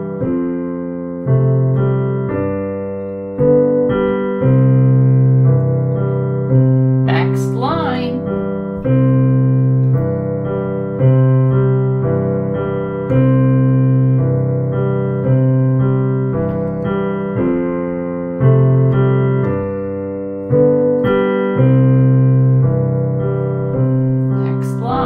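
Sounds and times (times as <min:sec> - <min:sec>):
piano playing slow chords: 0:00.0 - 0:25.0.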